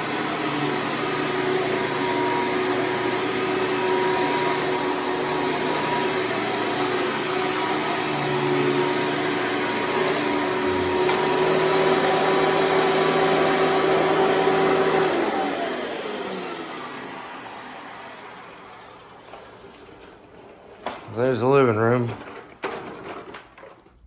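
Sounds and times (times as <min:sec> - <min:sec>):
vacuum cleaner motor whine: 0:00.0 - 0:23.4.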